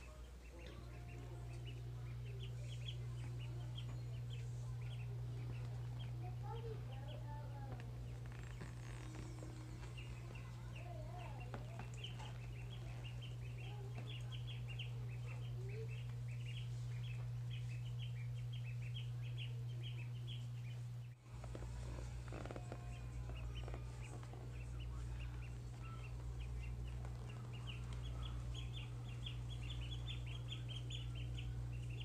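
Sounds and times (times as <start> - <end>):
ducklings peeping: 0.0 - 32.0
steady low hum: 0.0 - 32.0.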